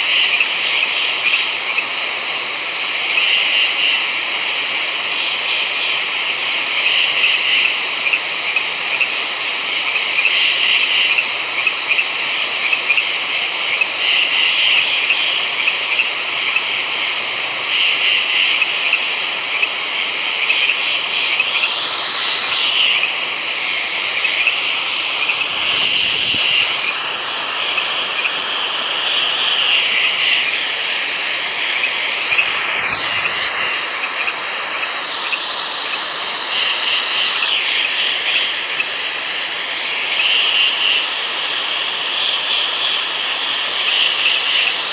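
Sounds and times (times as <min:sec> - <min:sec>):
frogs calling: 0:00.0 - 0:44.9.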